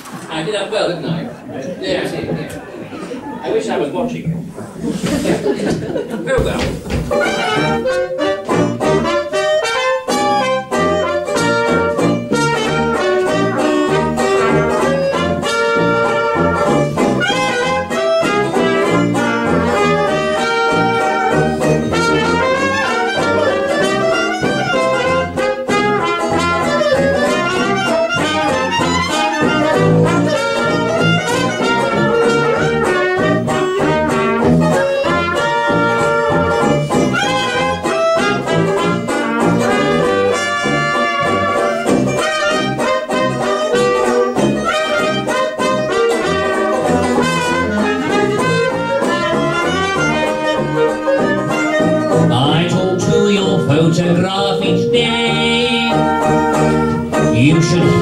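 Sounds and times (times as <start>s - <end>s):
small jazz band playing: 0.0s - 58.0s.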